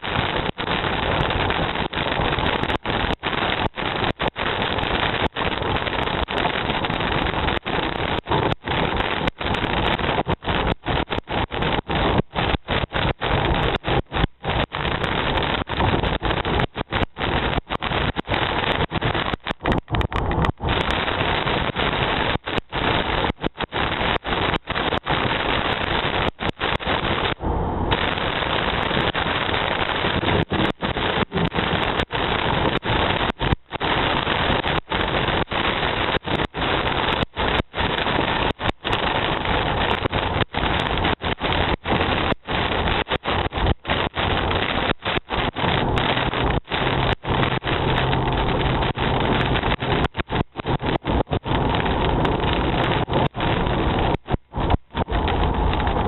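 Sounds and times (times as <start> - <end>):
heavy rain: 0.0 - 56.0
wind buffeting microphone: 0.0 - 56.0.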